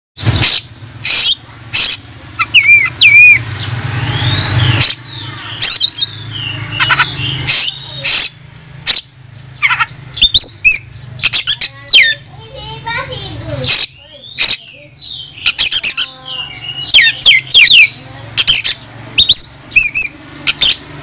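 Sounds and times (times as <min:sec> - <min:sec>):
bird harsh rasping notes: 0:00.2 - 0:21.0
bird whistled phrases: 0:00.3 - 0:03.4, 0:04.1 - 0:12.2, 0:13.6 - 0:20.8.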